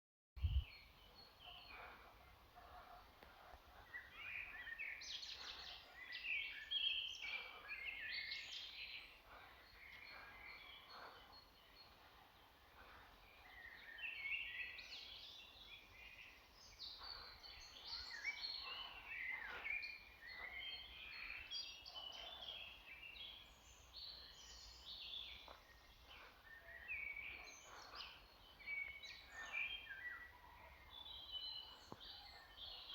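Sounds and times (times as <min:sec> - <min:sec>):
birds chirping and trilling: 0:00.4 - 0:32.9.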